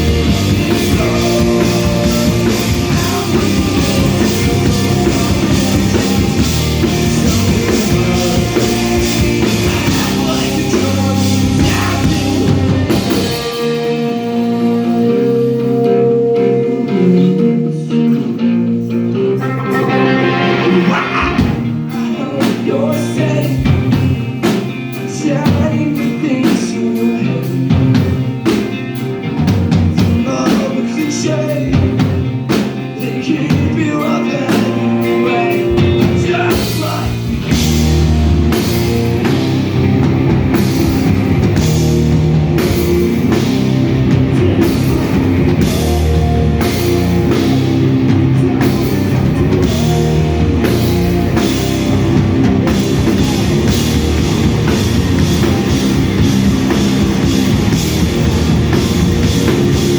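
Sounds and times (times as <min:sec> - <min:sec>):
bass guitar: 0:00.0 - 0:59.9
drum kit: 0:00.0 - 0:59.9
electric guitars: 0:00.0 - 0:59.9.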